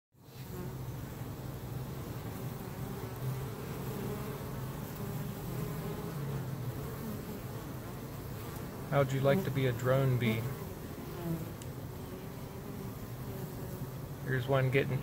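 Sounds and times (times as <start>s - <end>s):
bees buzzing: 0.3s - 15.0s.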